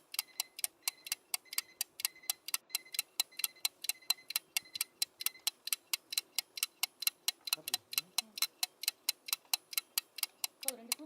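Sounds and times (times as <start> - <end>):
watch ticking: 0.0 - 11.0.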